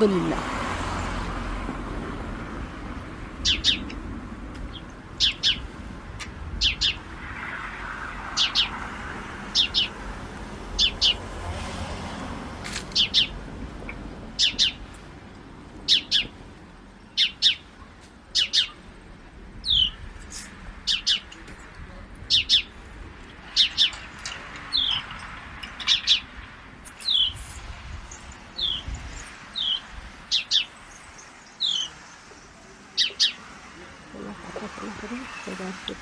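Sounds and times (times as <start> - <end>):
birds chirping: 0.0 - 11.6, 12.6 - 36.0.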